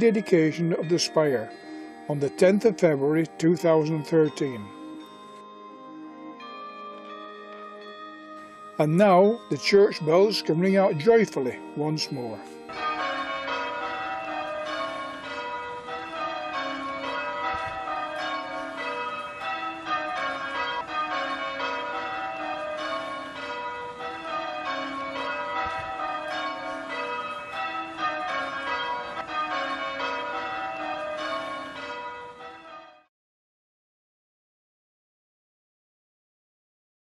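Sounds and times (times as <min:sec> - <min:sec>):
church bells ringing: 0:00.0 - 0:33.1.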